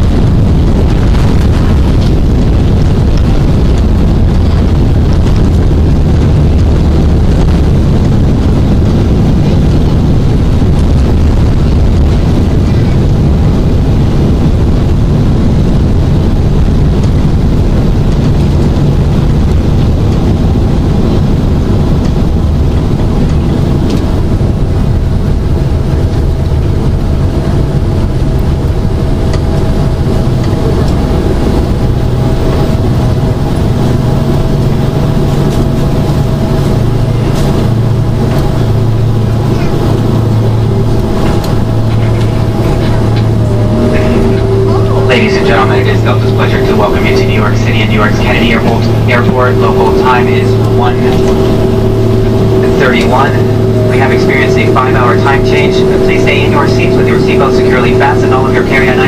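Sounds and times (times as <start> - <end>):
airliner engines and wheels rumbling: 0.0 - 59.0
faint whine: 0.0 - 59.0.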